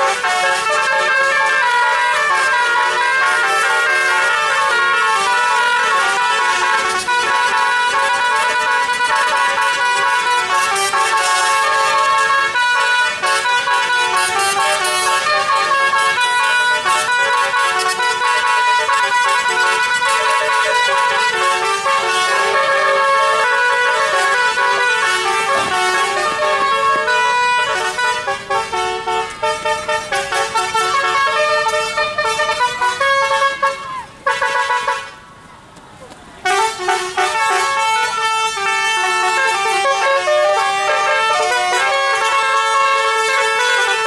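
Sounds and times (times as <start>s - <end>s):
multi-tone horns playing melody: 0.0s - 35.2s, 36.4s - 44.0s.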